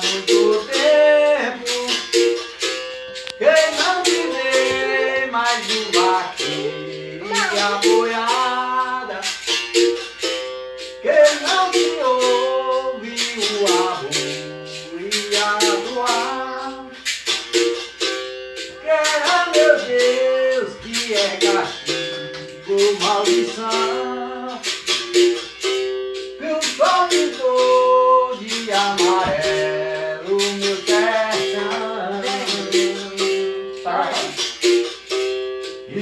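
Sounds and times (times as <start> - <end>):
person singing: 0.0 - 9.9, 11.0 - 17.6, 18.6 - 25.3, 26.4 - 34.9
berimbau struck rhythmically: 0.0 - 36.0.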